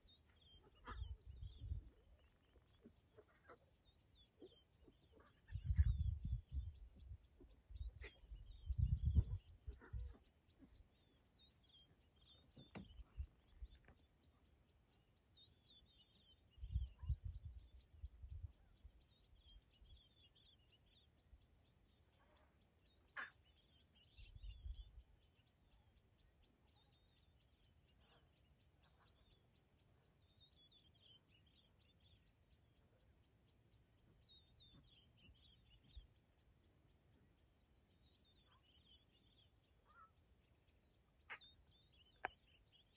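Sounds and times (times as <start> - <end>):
faint birdsong: 0.0 - 42.9.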